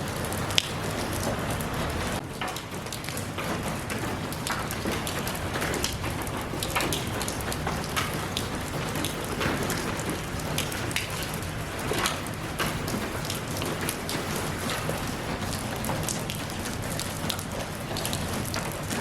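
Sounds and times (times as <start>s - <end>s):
raindrops pattering on surface: 0.0s - 19.0s
steady rain: 0.0s - 19.0s.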